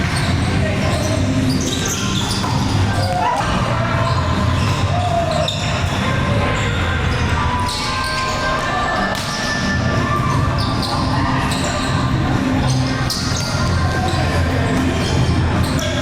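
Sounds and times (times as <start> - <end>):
people's voices: 0.0 - 16.0.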